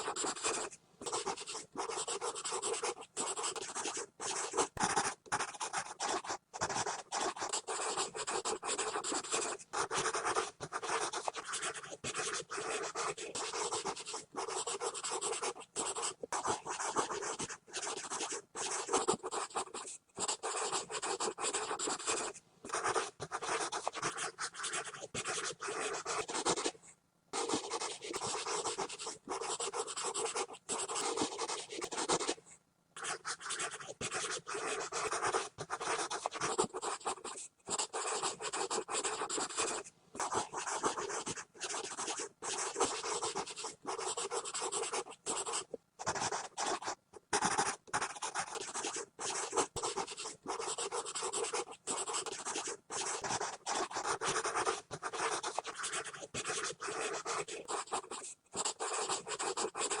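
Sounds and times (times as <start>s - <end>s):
pencil scribbling on paper: 0.0s - 26.8s, 27.4s - 32.4s, 33.0s - 60.0s.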